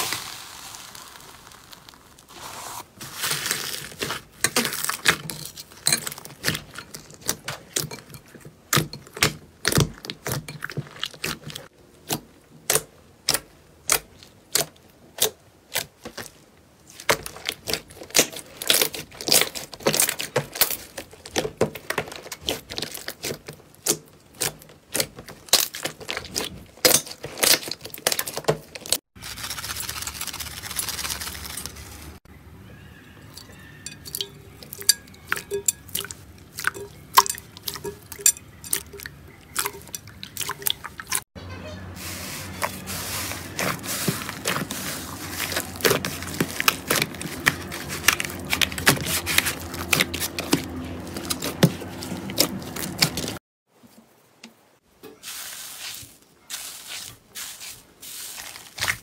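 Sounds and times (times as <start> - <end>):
soft squishing sounds: 0.0 - 41.3, 41.9 - 59.0.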